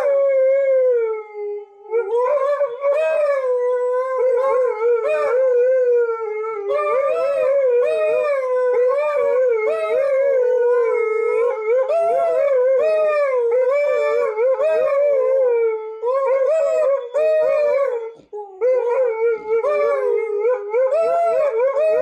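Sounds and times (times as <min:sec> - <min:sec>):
dogs howling: 0:00.0 - 0:22.0.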